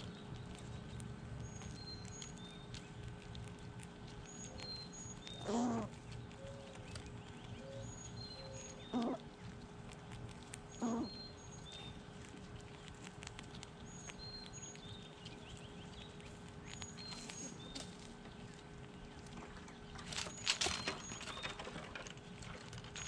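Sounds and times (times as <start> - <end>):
faint ticks and scratches: 0.0 - 23.0.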